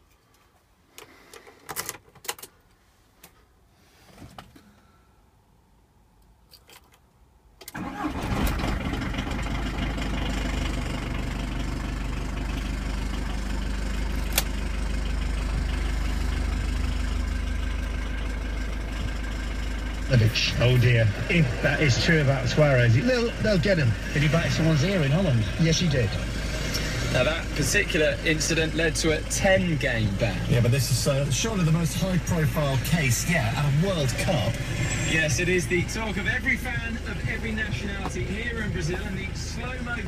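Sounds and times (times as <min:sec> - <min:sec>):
car engine starting and idling: 0:06.6 - 0:40.0.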